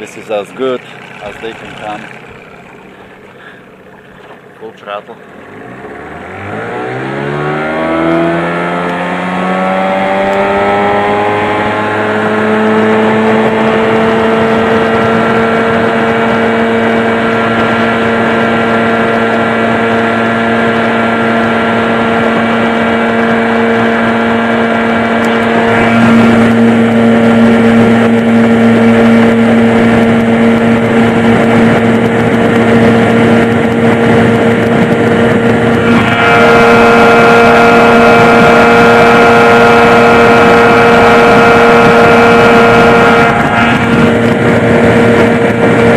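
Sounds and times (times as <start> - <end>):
outboard motor at full throttle: 0.0 - 45.9.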